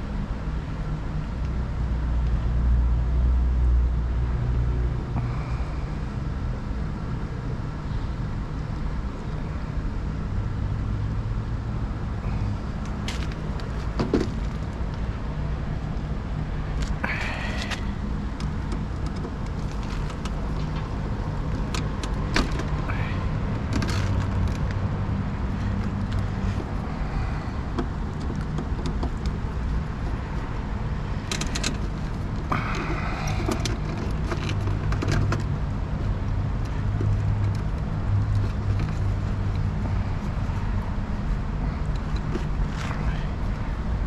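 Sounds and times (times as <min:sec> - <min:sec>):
air conditioning unit humming: 0:05.1 - 0:44.0.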